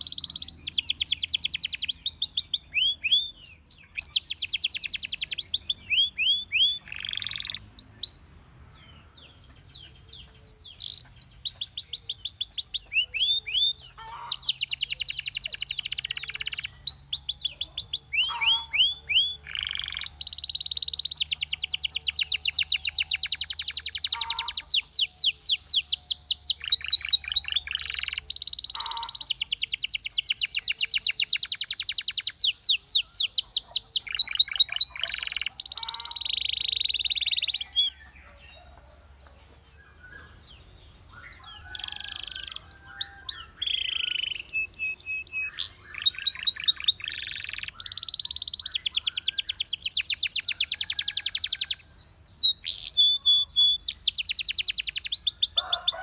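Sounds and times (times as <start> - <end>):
canary singing trills: 0.0 - 39.0, 39.7 - 56.0.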